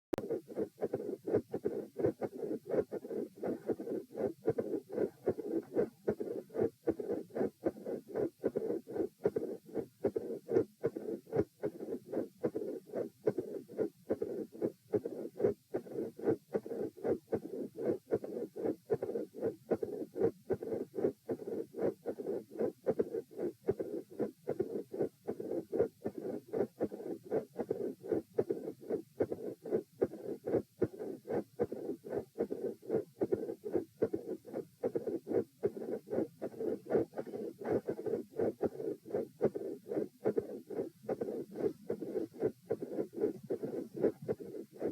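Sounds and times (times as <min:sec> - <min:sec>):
heart murmur: 0:00.2 - 0:44.9
heartbeat: 0:00.2 - 0:44.9.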